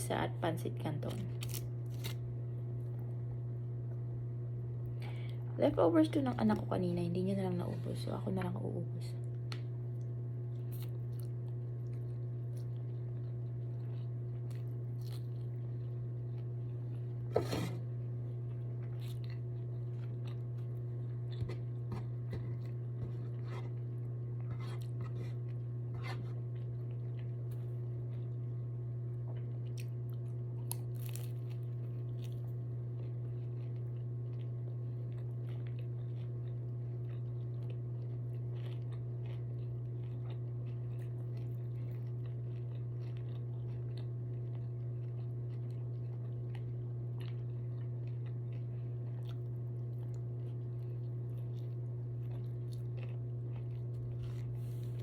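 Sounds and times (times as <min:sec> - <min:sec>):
low electrical hum: 0:00.0 - 0:55.0
person chewing crunchy food: 0:01.0 - 0:02.3, 0:09.9 - 0:55.0.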